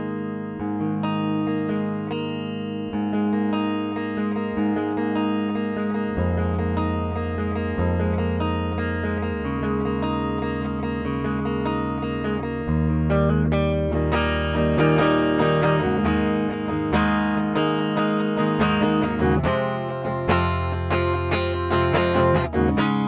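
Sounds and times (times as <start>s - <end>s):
clean electric guitar: 0.0s - 23.0s.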